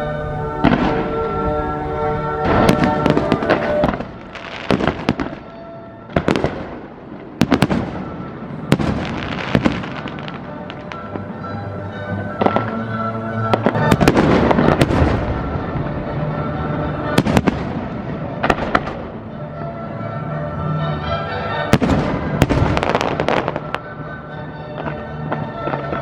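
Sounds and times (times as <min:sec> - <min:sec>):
fireworks bangs and crackling: 0:00.0 - 0:19.4, 0:21.5 - 0:26.0
music playing: 0:00.0 - 0:26.0.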